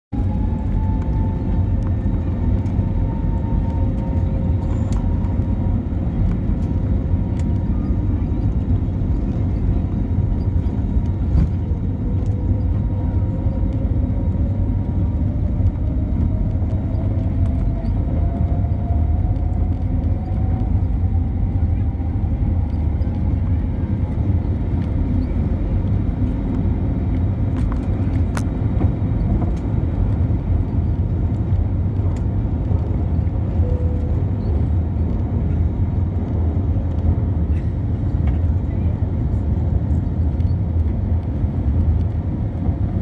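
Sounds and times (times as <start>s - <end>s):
jet engine cabin rumble: 0.1s - 43.0s.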